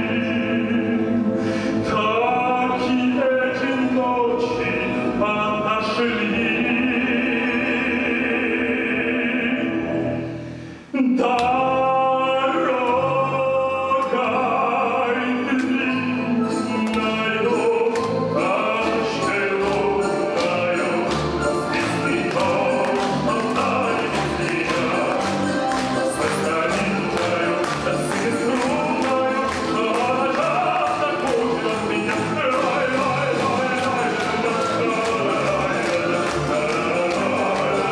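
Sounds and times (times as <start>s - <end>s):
operatic singing: 0.0s - 37.9s
orchestral music: 0.0s - 37.9s.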